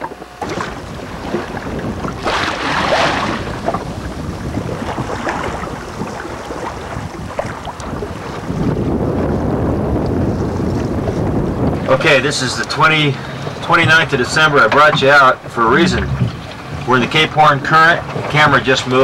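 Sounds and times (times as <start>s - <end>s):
waves washing: 0.0s - 19.0s
wind over microphone: 0.0s - 19.0s.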